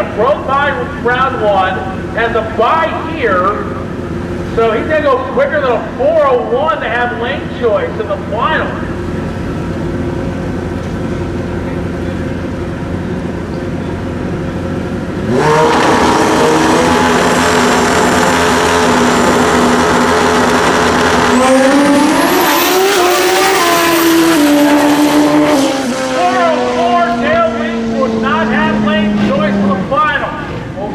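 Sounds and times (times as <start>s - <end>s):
drag bike engine at full throttle: 0.0s - 30.9s.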